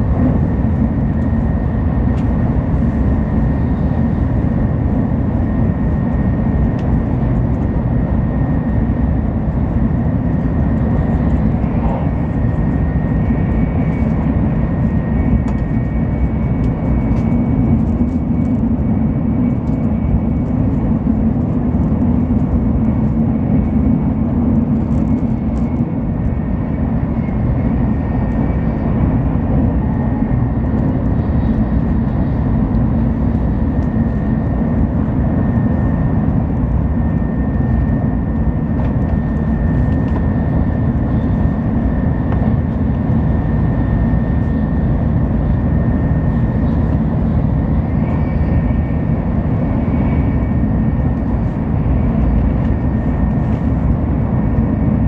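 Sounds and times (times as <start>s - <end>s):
train low rumble and rush: 0.0s - 55.0s.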